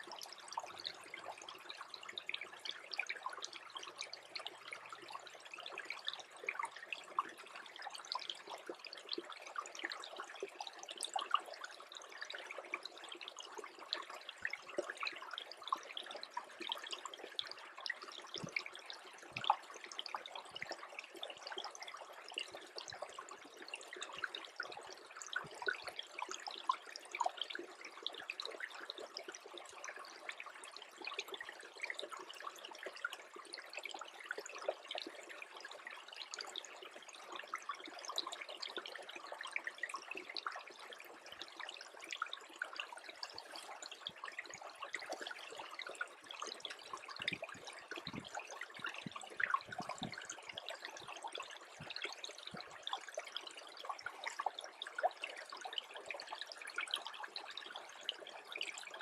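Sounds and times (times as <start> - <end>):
brook trickling with gurgles: 0.0 - 59.0.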